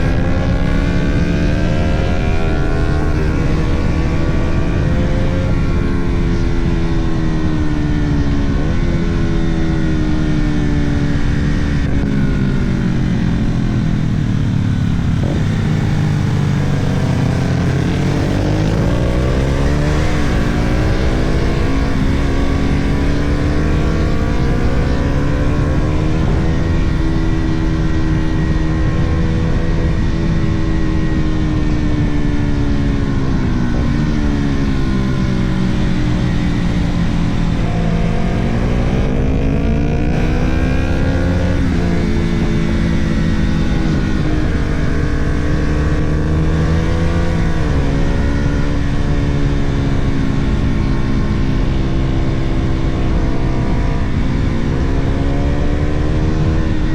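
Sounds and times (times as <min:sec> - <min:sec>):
heavy wind: 0:00.0 - 0:56.9
motorcycle engine: 0:00.0 - 0:56.9
road rumble: 0:00.0 - 0:56.9.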